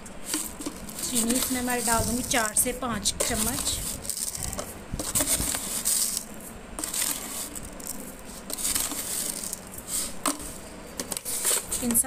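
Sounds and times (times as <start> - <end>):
sugar grains rattling into glass jar: 0.3 - 10.1.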